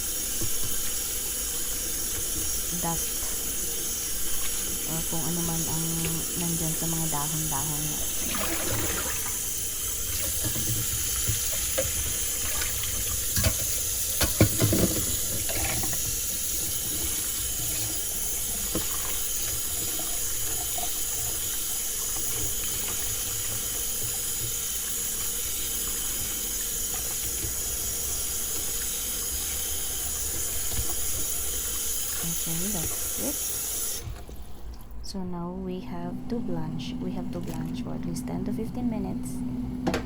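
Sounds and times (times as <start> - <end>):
kitchen tap running: 0.0 - 35.0.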